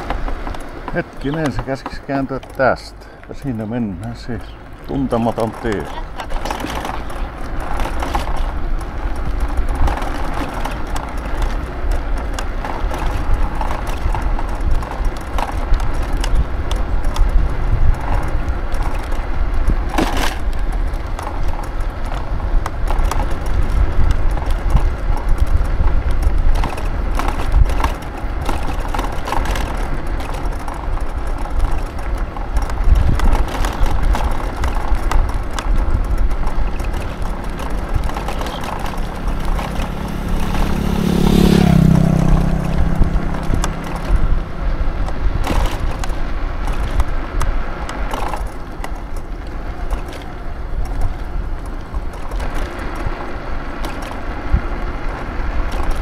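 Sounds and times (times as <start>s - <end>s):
knocks and rattles from bumps: 0.0s - 56.0s
scooter road noise rumble: 0.0s - 56.0s
wind buffeting microphone: 0.0s - 56.0s.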